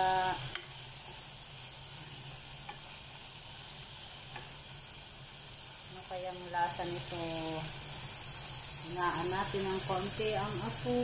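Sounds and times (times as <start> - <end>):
sausages sizzling: 0.0 - 11.0.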